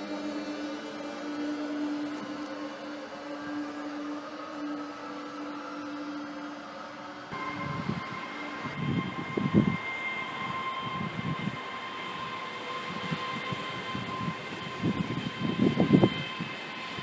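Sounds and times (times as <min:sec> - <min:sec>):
high electric whine: 0:00.0 - 0:17.0.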